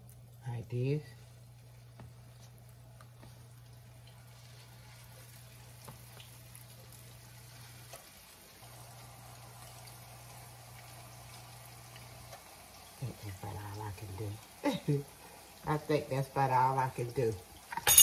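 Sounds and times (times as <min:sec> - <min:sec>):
meatballs sizzling in oil: 0:00.0 - 0:18.0.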